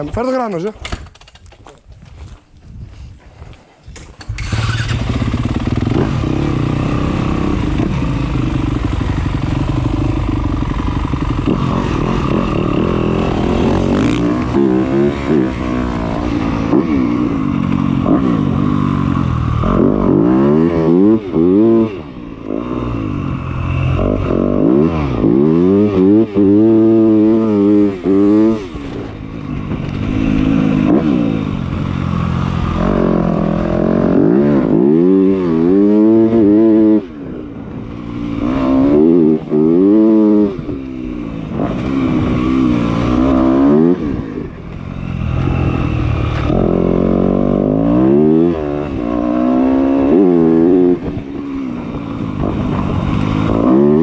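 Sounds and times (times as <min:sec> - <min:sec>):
motocross bike engine revving: 0:04.2 - 0:54.0.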